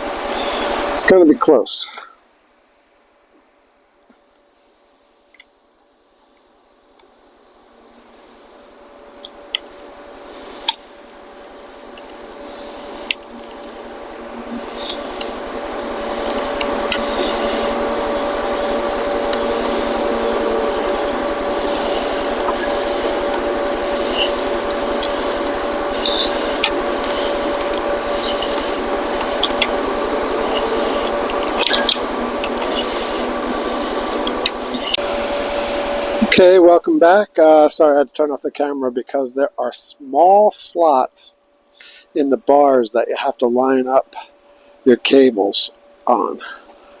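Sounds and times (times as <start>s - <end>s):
mechanical whir with hum: 0.0s - 47.0s.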